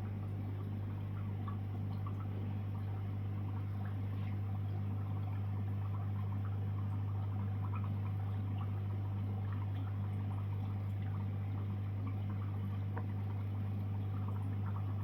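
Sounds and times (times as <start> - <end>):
pump hum: 0.0 - 15.0
trickling and bubbling water: 0.0 - 15.0
water drips and pops: 0.0 - 15.0.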